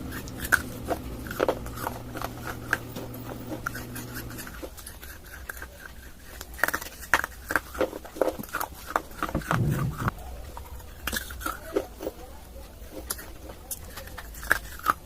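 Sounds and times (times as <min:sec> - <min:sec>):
dull chewing: 0:00.0 - 0:15.0.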